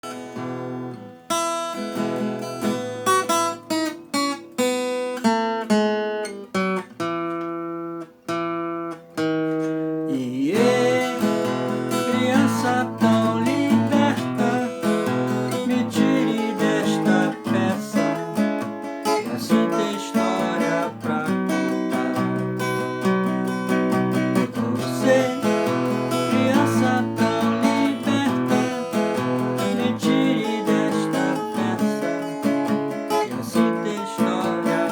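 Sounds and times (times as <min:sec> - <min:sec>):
acoustic guitar plucked notes: 0:00.0 - 0:34.9
acoustic guitar strummed chords: 0:00.0 - 0:34.9.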